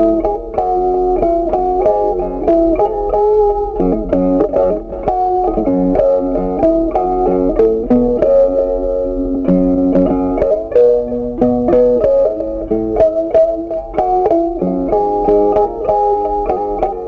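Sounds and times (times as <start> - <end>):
low accompaniment: 0.0 - 17.0
plucked melody: 0.0 - 17.0.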